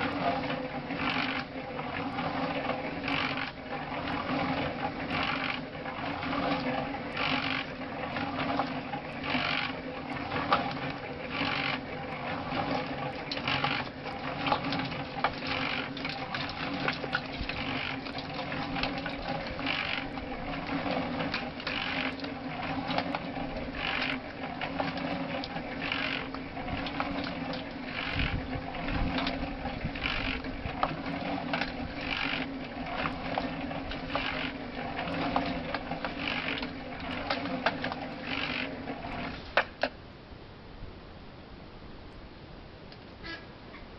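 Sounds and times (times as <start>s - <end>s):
cement mixer running: 0.0s - 39.9s
mixer drive ticking: 0.0s - 39.9s
mix tumbling in drum: 1.6s - 39.9s.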